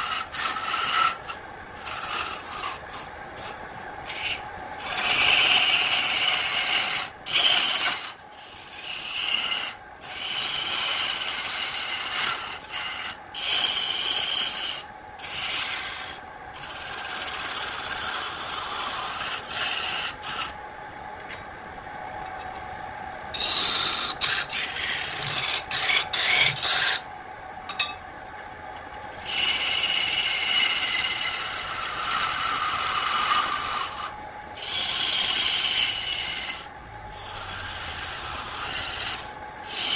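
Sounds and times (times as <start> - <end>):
lathe motor hum: 0.0 - 20.6, 23.3 - 27.9, 28.9 - 39.9
lathe tool scraping wood: 0.0 - 20.6, 23.3 - 27.1, 29.0 - 39.9.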